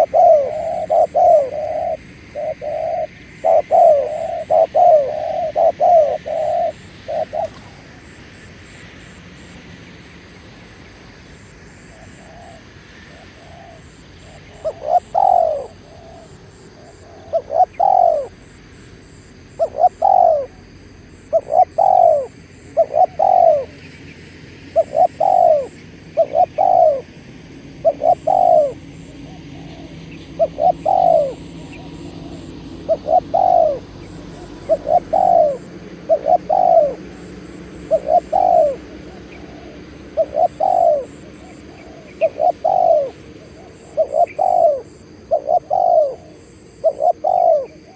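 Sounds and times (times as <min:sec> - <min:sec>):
dove cooing: 0:00.0 - 0:08.9, 0:11.8 - 0:18.6, 0:19.5 - 0:47.9.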